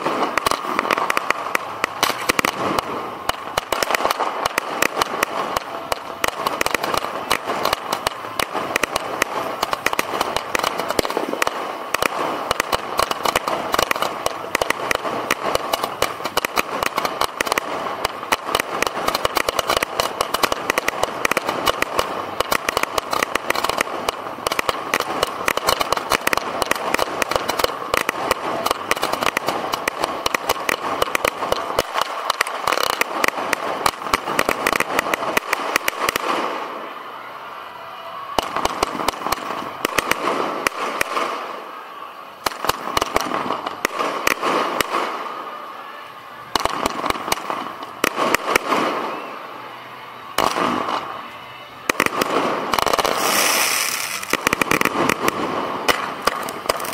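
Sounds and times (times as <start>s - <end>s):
fireworks launching and banging: 0.0s - 56.9s.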